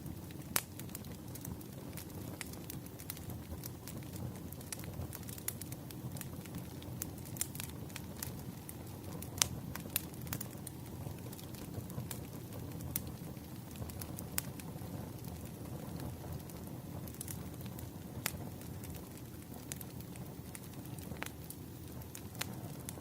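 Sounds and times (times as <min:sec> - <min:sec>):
low rush of flames: 0:00.0 - 0:23.0
wood crackling and popping: 0:00.0 - 0:23.0.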